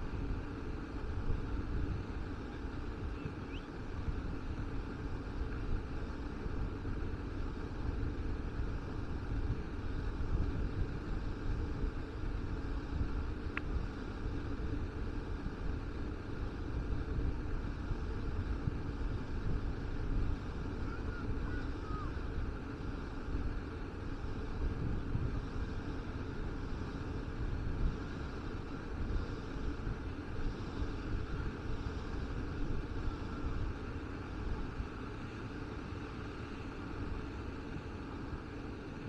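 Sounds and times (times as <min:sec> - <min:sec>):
open-air ambience hiss: 0:00.0 - 0:39.0
wind rumbling on microphone: 0:00.0 - 0:39.0.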